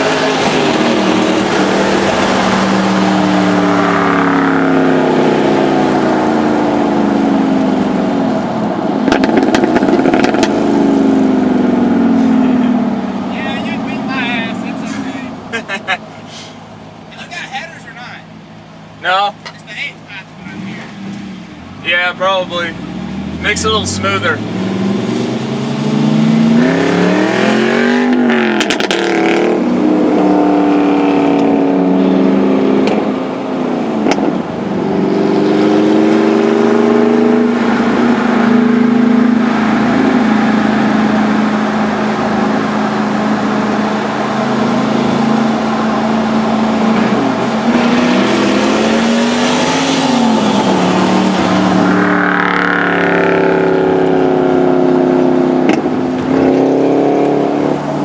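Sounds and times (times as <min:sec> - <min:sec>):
loud car engine under load: 0:00.0 - 0:17.1, 0:18.3 - 0:58.0.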